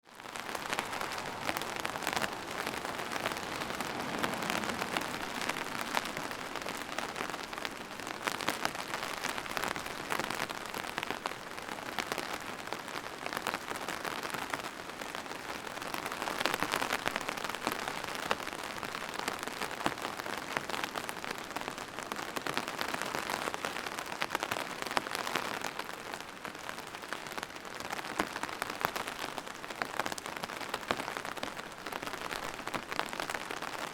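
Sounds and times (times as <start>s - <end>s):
rain pattering: 0.0s - 33.9s.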